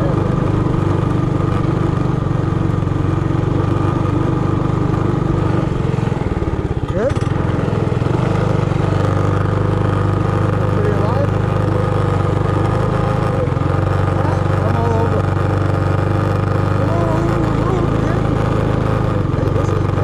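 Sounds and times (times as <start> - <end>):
minibike engine revving: 0.0 - 20.0.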